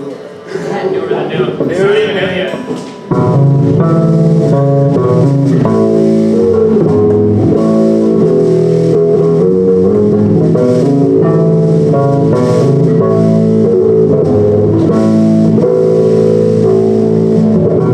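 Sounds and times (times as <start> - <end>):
punk rock band playing live: 1.0 - 17.9.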